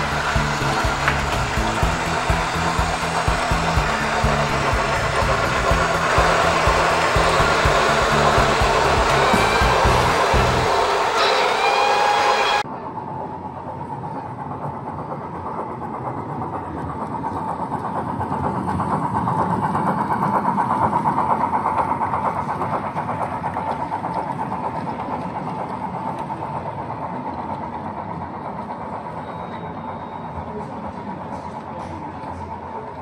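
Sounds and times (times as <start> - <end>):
model train running: 0.0 - 33.0.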